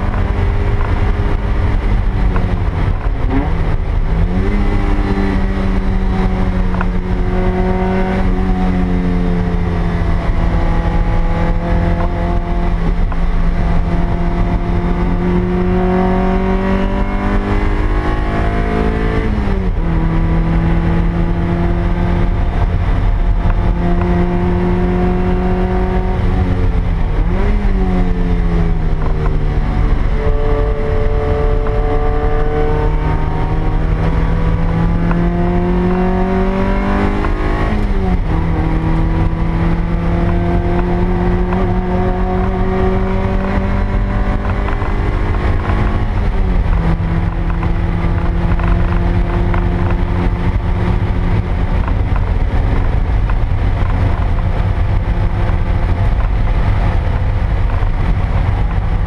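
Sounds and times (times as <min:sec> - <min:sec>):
car engine accelerating: 0:00.0 - 0:59.0
road noise rumble: 0:00.0 - 0:59.0.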